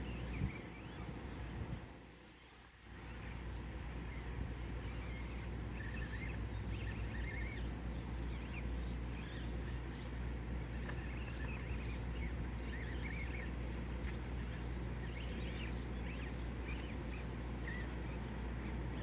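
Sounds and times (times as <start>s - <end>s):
small electric motor whining: 0.0s - 19.0s
steady low hum: 0.0s - 19.0s.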